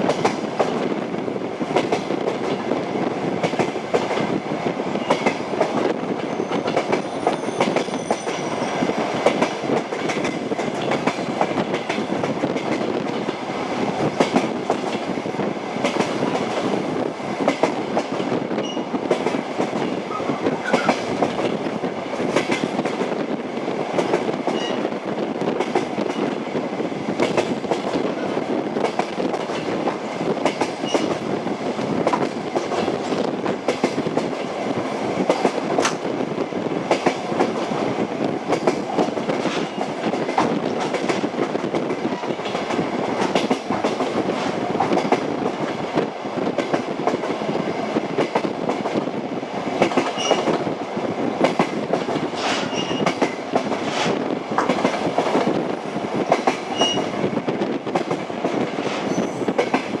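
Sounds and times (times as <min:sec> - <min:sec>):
train wheels knocking on rails: 0:05.0 - 0:36.1, 0:36.8 - 0:49.1, 0:49.7 - 0:50.7, 0:51.3 - 1:00.0.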